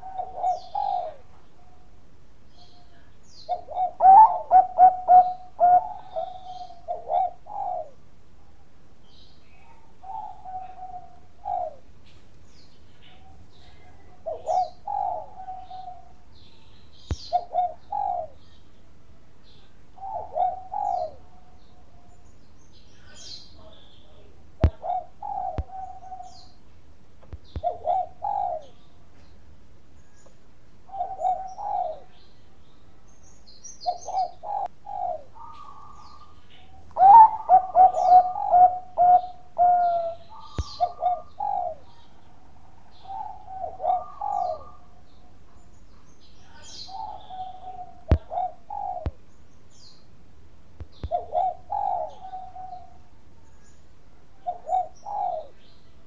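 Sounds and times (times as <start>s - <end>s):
dove cooing song: 0.0s - 29.4s, 30.0s - 50.1s, 50.8s - 56.0s.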